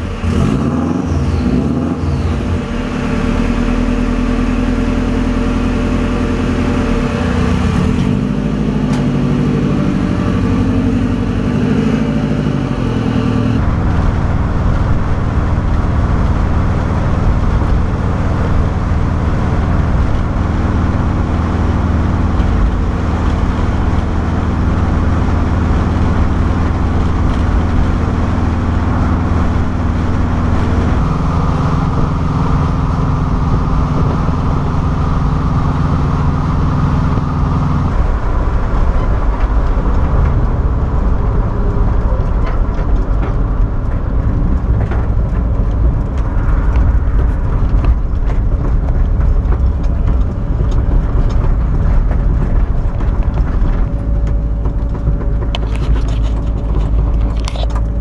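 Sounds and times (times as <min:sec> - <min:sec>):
engine and road drone inside vehicle: 0:00.0 - 0:58.0
engine revving: 0:00.0 - 0:58.0.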